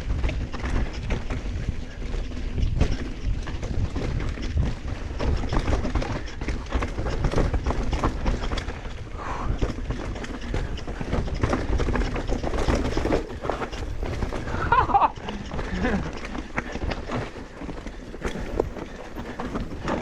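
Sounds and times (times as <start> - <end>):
bike rattling and clattering: 0.0 - 20.0
tyres rumbling over dirt: 0.0 - 20.0.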